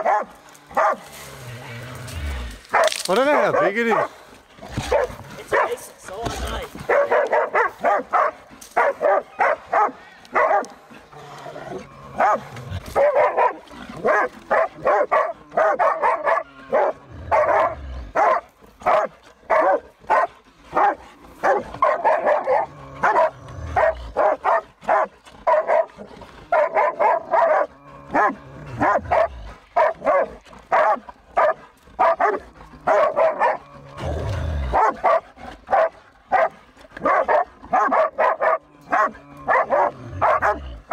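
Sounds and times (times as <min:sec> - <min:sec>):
dog barking rapidly: 0:00.0 - 0:01.0, 0:02.7 - 0:04.1, 0:04.8 - 0:05.8, 0:06.8 - 0:10.7, 0:12.2 - 0:25.9, 0:26.5 - 0:33.6, 0:34.7 - 0:40.6.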